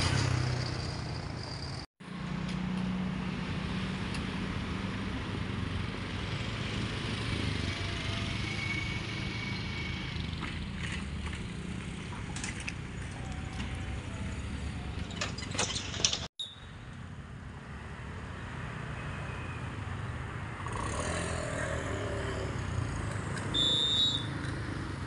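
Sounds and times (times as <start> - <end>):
motorcycles and car passing: 0.0 - 25.0.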